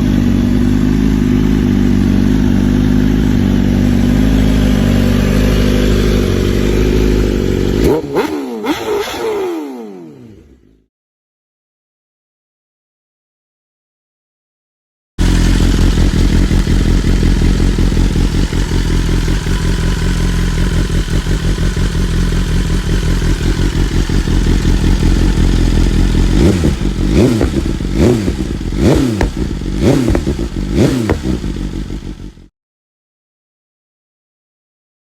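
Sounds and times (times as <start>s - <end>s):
motorcycle engine idling and revving: 0.0s - 10.9s, 15.2s - 32.5s.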